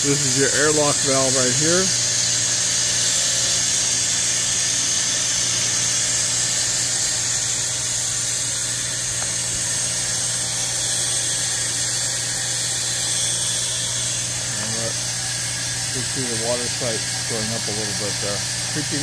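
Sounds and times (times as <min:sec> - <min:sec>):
water pump hum: 0:00.0 - 0:19.0.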